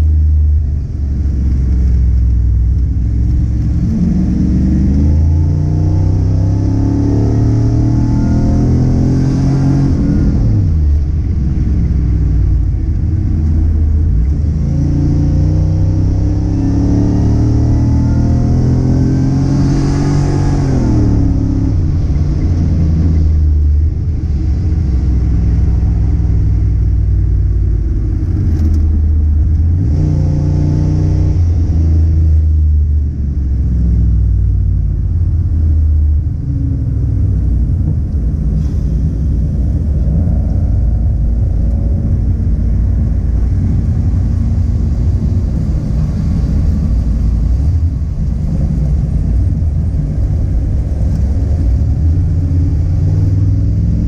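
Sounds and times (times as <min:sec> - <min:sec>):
car engine revving under load: 0:00.0 - 0:54.0
low rumble: 0:00.0 - 0:54.0.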